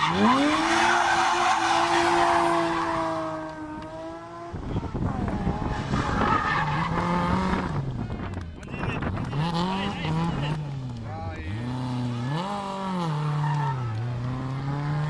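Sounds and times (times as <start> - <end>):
rally car engine at high revs: 0.0 - 15.0
second car engine: 0.0 - 15.0.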